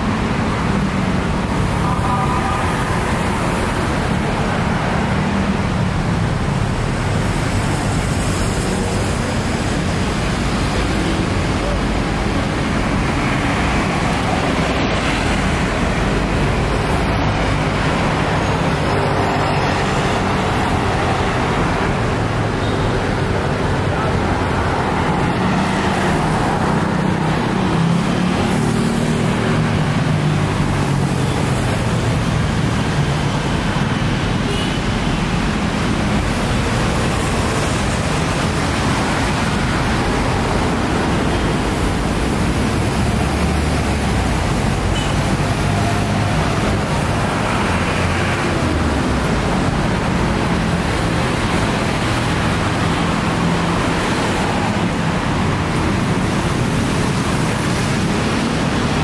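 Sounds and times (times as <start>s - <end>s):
cars and buses passing: 0.0s - 59.0s.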